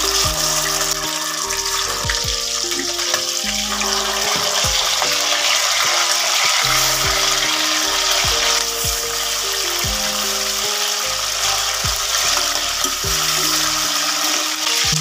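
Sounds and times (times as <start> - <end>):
background music with drum beat: 0.0 - 5.2, 6.6 - 13.8, 14.7 - 15.0
chicken sizzling in oil: 0.0 - 15.0.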